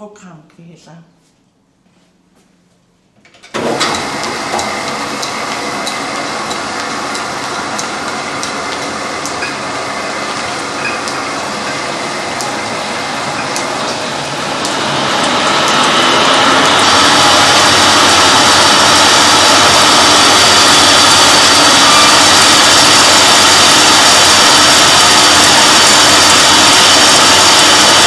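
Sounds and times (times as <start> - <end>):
belt-driven machinery running: 3.6 - 28.0.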